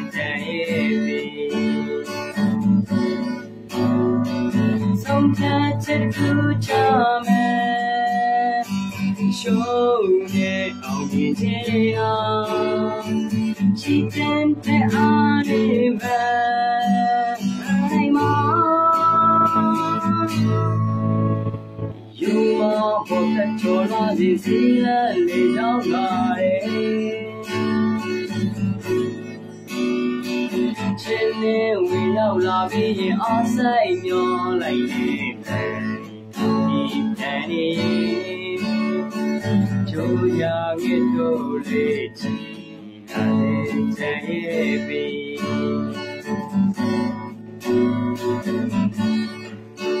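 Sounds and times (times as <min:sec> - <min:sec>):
man singing: 0:00.0 - 0:02.6, 0:04.6 - 0:21.0, 0:22.1 - 0:28.1, 0:30.6 - 0:46.4
acoustic guitar strumming: 0:00.0 - 0:50.0.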